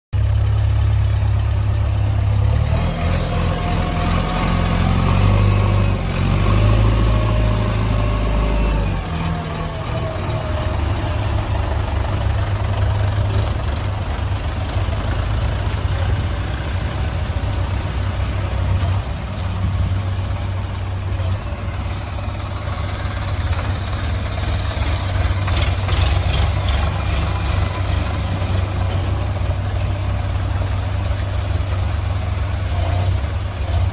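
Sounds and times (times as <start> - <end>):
diesel engine rumbling: 0.1 - 33.9.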